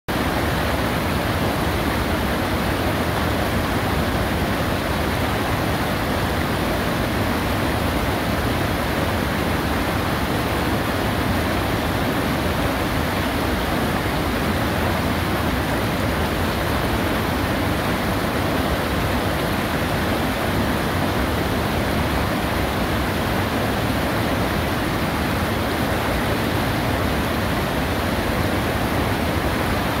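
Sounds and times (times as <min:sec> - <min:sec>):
river rushing over rocks: 0:00.1 - 0:30.0.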